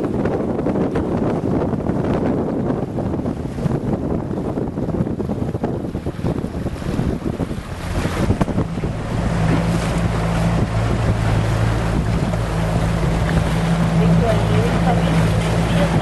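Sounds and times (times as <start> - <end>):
water rushing and splashing: 0.0 - 16.0
wind buffeting microphone: 0.0 - 16.0.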